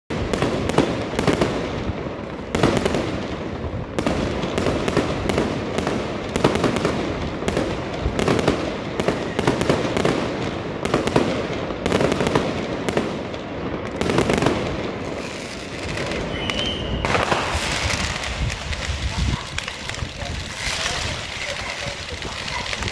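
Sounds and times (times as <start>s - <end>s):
fireworks bangs: 0.1s - 22.9s.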